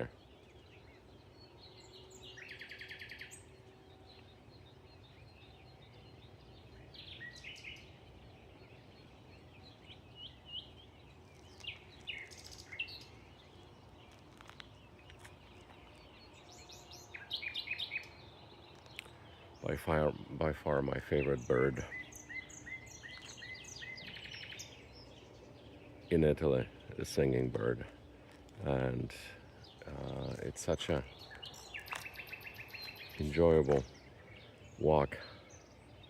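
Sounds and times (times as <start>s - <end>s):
nightingale singing: 0.0s - 36.0s.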